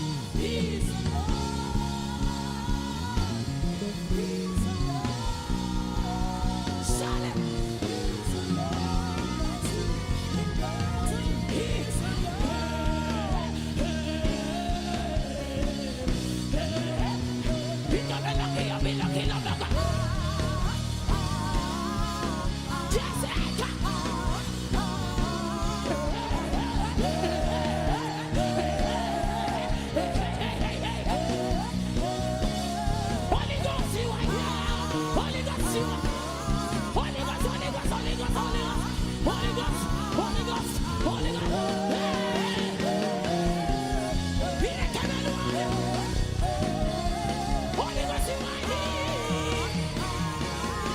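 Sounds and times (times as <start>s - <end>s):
live gospel worship music: 0.0s - 50.9s
low bass accompaniment: 0.0s - 50.9s.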